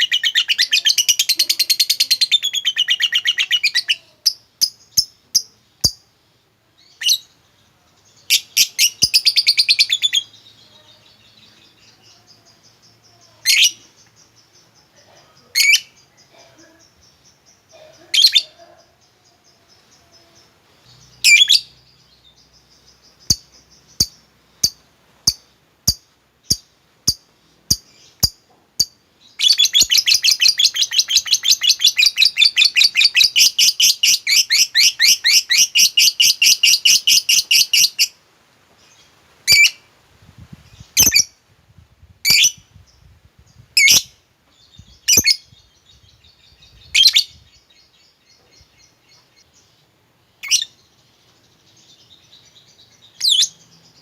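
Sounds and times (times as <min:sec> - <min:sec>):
bird chirping: 0:00.0 - 0:41.4, 0:42.3 - 0:54.0.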